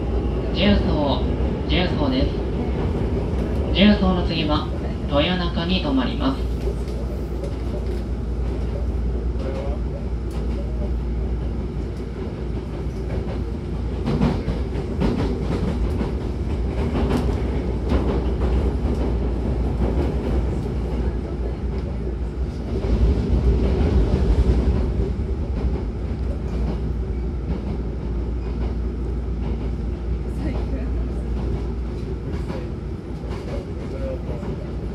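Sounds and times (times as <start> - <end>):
train low rumble: 0.0 - 34.9.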